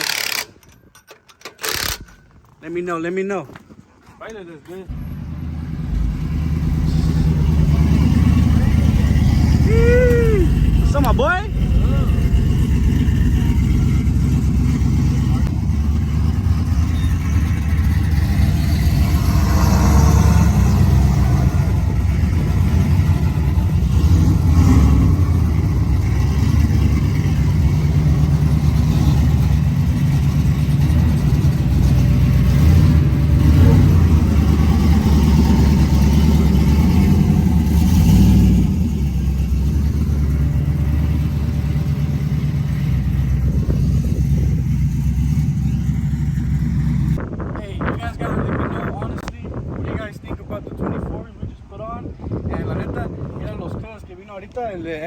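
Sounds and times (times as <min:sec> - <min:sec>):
truck engine rumbling: 0:00.0 - 0:51.4.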